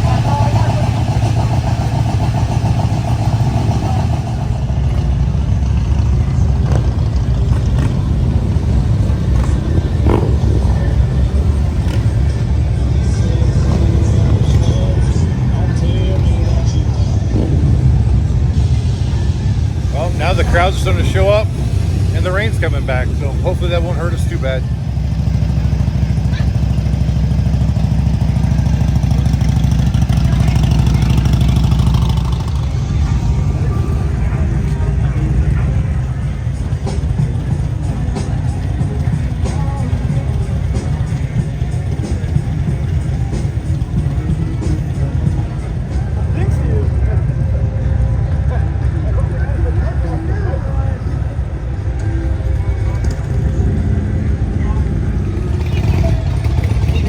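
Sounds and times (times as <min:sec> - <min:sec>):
motorcycle engines droning: 0:00.0 - 0:57.0.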